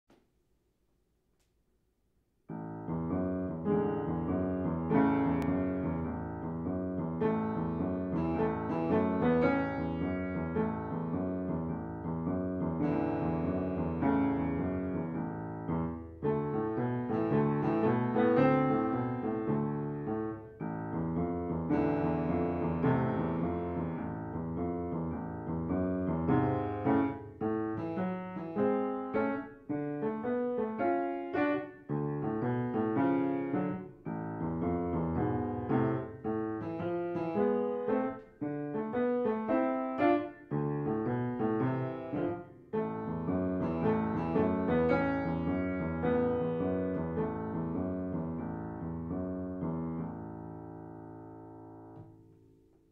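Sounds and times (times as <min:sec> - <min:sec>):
upright piano chords: 0:02.5 - 0:52.9.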